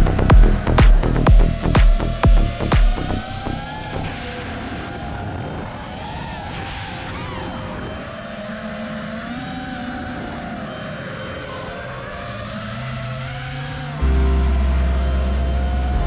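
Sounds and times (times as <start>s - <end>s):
drone motors whining: 0.0s - 16.0s
rally car engine at speed: 0.0s - 16.0s.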